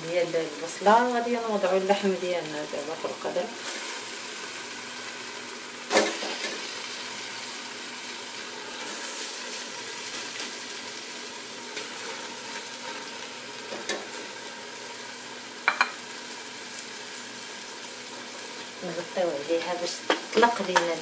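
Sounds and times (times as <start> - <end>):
meat sizzling in fat: 0.0 - 21.0.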